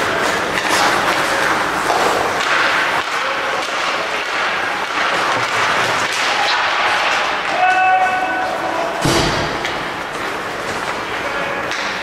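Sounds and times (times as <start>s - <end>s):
arena crowd noise: 0.0s - 12.0s.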